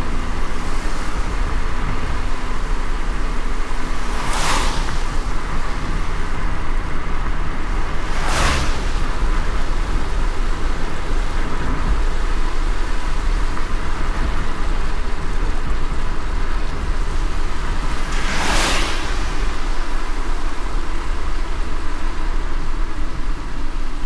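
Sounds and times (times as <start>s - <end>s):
car road rumble: 0.0s - 24.0s
rain and tyres on wet road: 0.0s - 24.0s.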